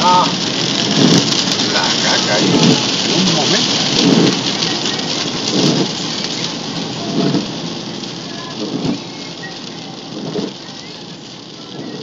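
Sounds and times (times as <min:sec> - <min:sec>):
heavy rain on car roof: 0:00.0 - 0:12.0
windscreen wipers swishing: 0:00.0 - 0:12.0.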